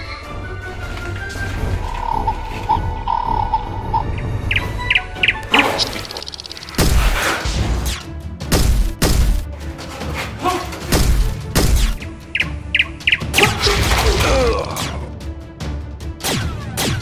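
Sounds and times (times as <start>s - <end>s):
cinematic background music: 0.0s - 17.0s.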